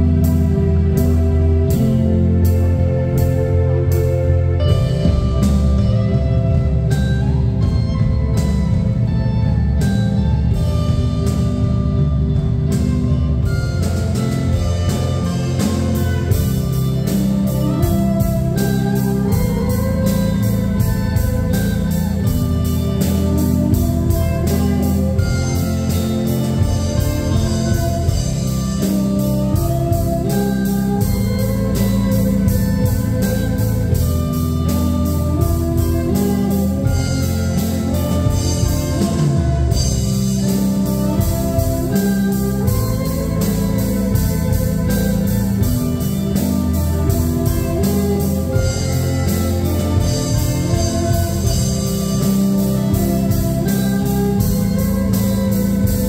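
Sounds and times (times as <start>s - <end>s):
cymbal beat: 0.0s - 56.0s
live rock band playing: 0.0s - 56.0s.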